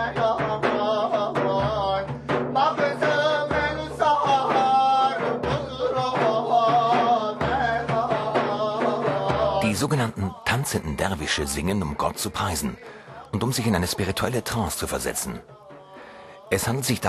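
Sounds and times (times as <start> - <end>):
frame drum beat: 0.0 - 17.0
man singing devotional chant: 0.0 - 17.0.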